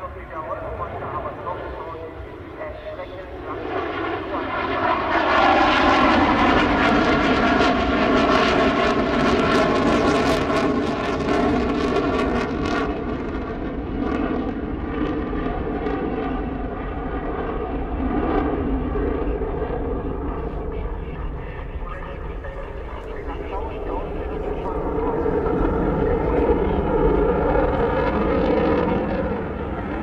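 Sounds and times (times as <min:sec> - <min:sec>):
jet engines roaring in afterburner: 0:00.0 - 0:30.0.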